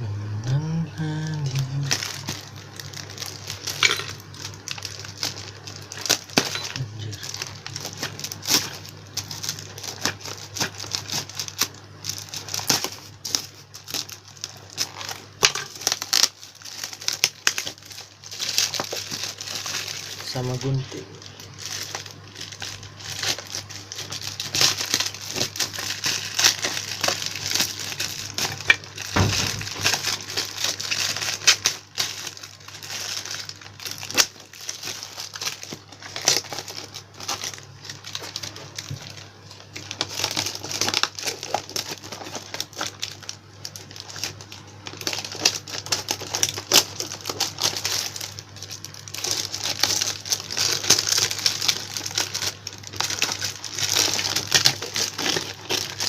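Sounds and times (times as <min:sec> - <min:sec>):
faint low hum: 0:00.0 - 0:56.0
packaging crinkling and rustling: 0:01.4 - 0:56.0
scissors cutting packaging: 0:01.8 - 0:20.8, 0:21.7 - 0:38.8, 0:39.8 - 0:56.0
small clicks and crackles: 0:01.9 - 0:56.0.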